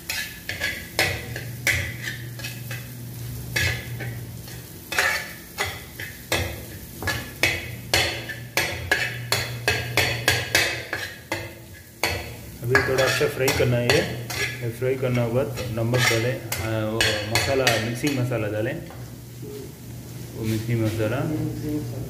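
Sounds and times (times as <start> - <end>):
metal spatula scraping a pan: 0.0 - 18.3
light sizzle: 0.0 - 22.0.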